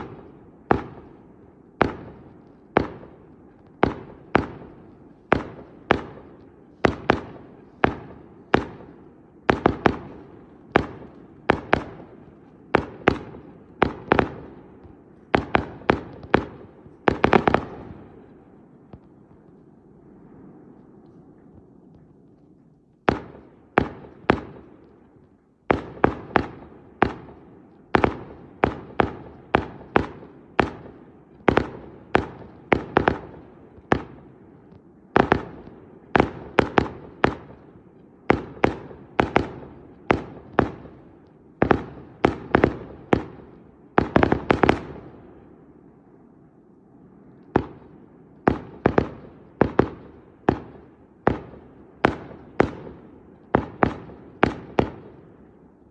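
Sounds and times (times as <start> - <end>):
fireworks bursting with echo: 0.0 - 55.9.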